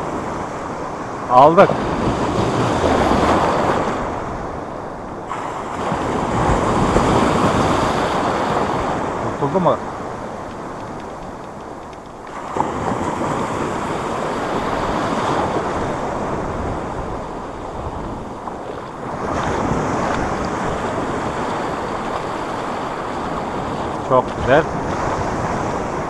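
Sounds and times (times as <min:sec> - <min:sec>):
sea surf on pebble shore: 0:00.0 - 0:26.0
wind rumbling on microphone: 0:00.0 - 0:26.0.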